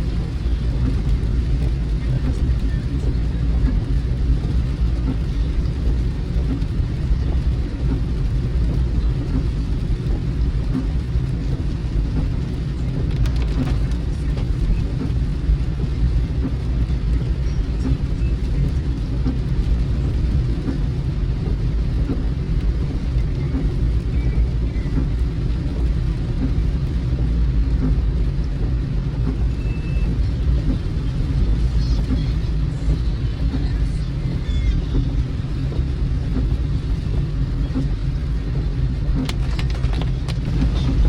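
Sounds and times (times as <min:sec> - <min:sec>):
car road and engine rumble: 0:00.0 - 0:41.0
rain on car: 0:00.0 - 0:41.0.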